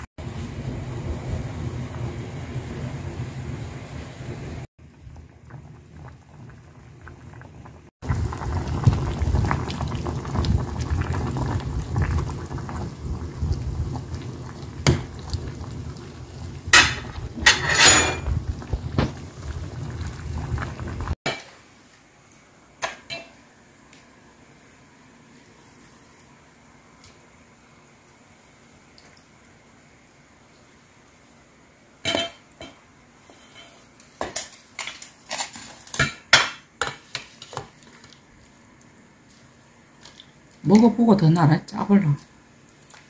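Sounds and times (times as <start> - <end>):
stew boiling in metal pot: 0.0 - 43.0.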